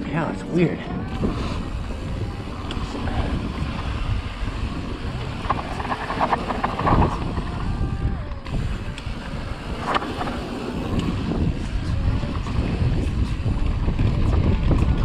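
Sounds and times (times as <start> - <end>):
wind on microphone: 0.0 - 15.0
bike rattling over bumps: 1.0 - 15.0
bike tyres on loose dirt: 1.0 - 15.0.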